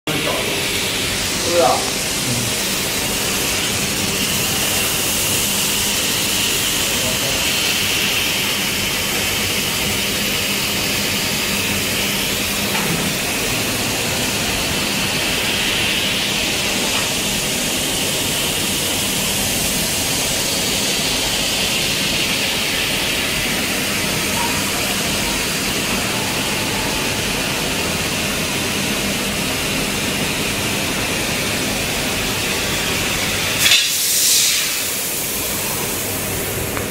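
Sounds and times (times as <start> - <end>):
hiss of assist gas jetting: 0.1 - 29.5, 30.1 - 36.9.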